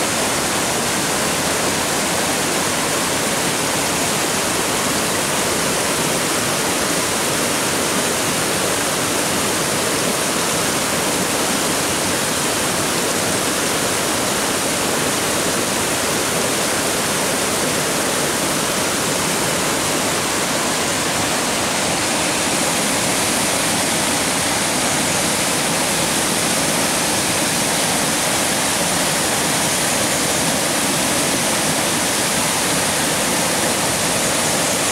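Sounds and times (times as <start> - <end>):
stream cascading over rocks: 0.0 - 34.9.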